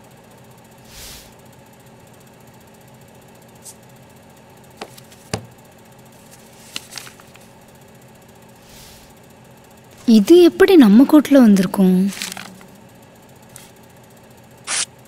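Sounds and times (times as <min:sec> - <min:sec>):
steady low hum: 0:00.0 - 0:02.8, 0:03.4 - 0:15.0.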